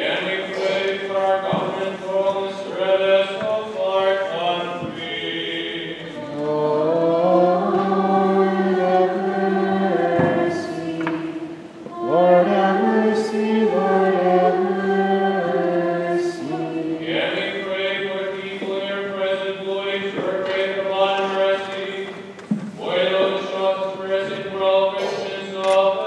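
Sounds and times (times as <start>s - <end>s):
group chanting slowly: 0.0s - 26.0s.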